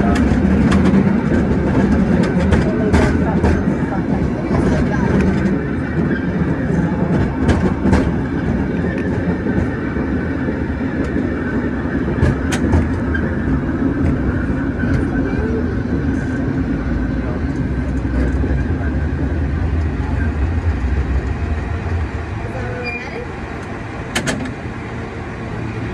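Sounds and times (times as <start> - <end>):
cable car rumble and rattle: 0.0 - 25.9.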